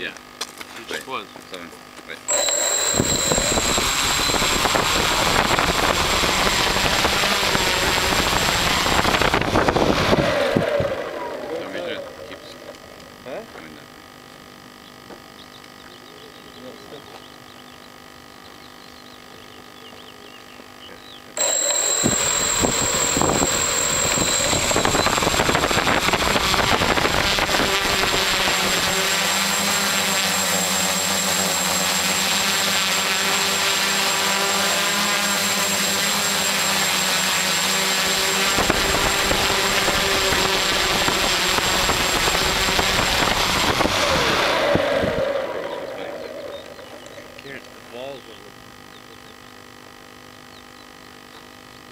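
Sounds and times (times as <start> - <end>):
quadcopter propellers whining: 0.8 - 51.9.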